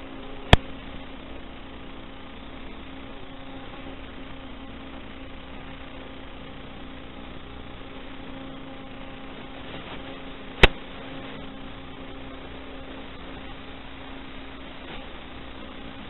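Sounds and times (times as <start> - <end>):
electrical hum and static hiss: 0.0 - 16.0.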